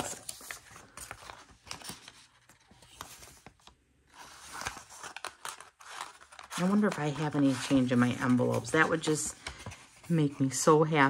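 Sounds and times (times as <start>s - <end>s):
paper rustling: 0.0s - 10.7s.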